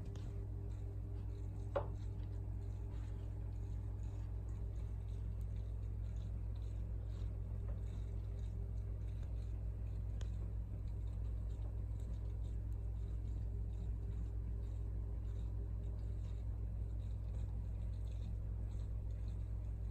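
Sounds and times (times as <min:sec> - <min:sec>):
aquarium equipment humming: 0:00.0 - 0:19.9.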